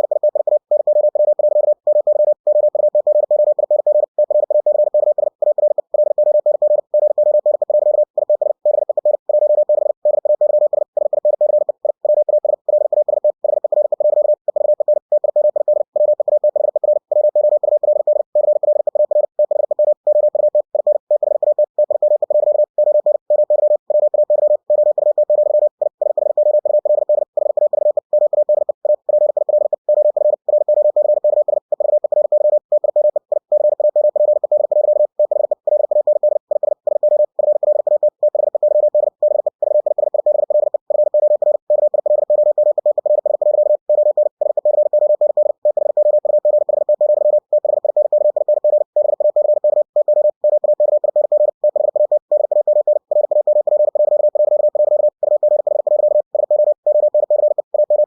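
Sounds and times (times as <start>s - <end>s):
morse code tone: 0.0s - 58.0s.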